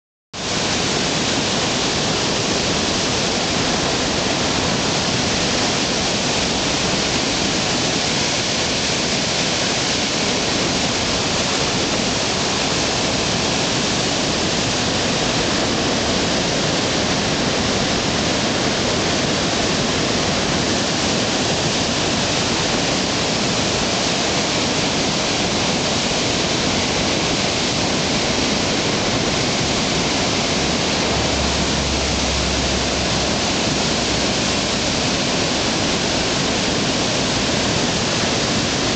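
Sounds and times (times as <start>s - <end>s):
water rushing through sluice gates: 0.4s - 38.9s.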